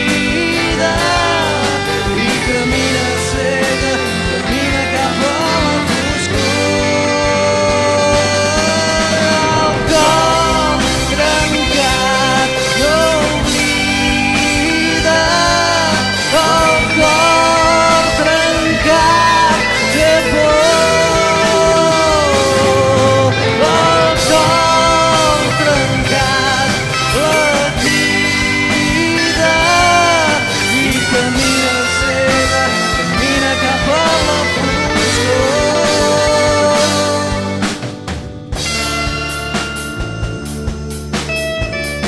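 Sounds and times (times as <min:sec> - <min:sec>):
bass: 0:00.0 - 0:42.0
drum kit: 0:00.0 - 0:42.0
lead guitar melody with bends: 0:00.0 - 0:42.0.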